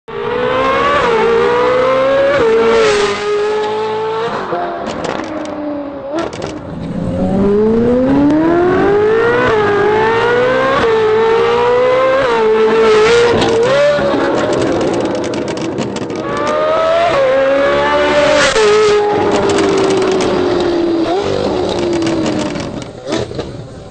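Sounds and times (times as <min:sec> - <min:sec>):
sports car engine accelerating: 0:00.1 - 0:22.8.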